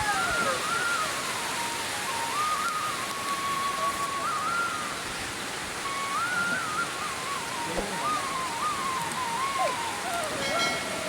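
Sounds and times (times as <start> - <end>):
thin high melody: 0.0 - 5.2, 5.8 - 11.0
water noise: 0.0 - 11.0.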